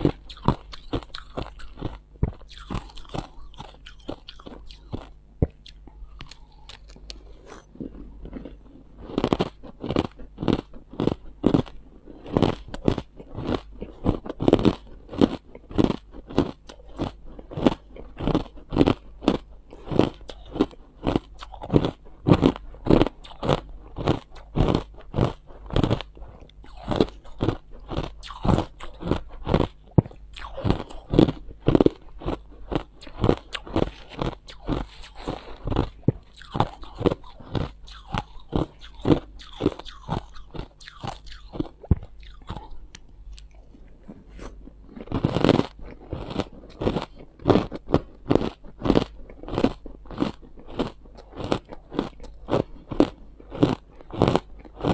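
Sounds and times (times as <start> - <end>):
ice crunching between teeth: 0.0 - 54.9.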